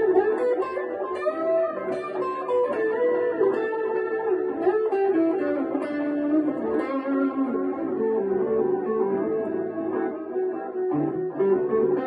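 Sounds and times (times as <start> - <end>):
electric guitar melody with delay: 0.0 - 12.0.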